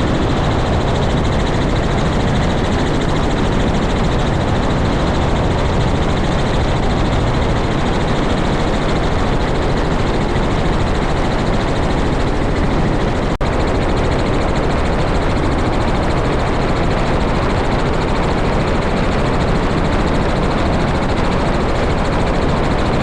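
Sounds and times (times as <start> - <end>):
helicopter running: 0.0 - 23.0.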